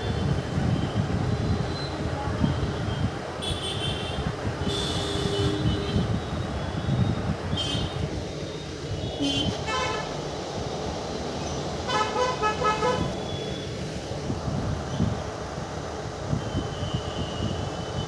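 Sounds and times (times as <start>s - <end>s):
low rumble of moving train: 0.0s - 18.0s.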